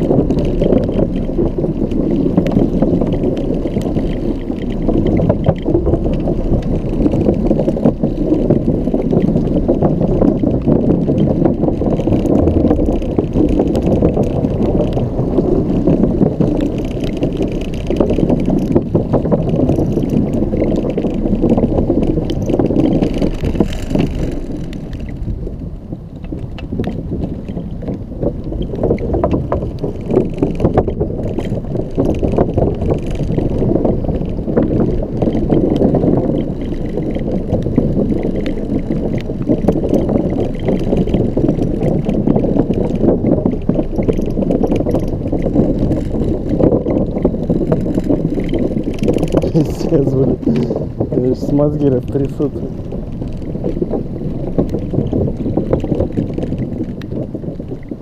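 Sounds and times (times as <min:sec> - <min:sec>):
electric scooter rattling on bumpy ground: 0:00.0 - 0:58.0.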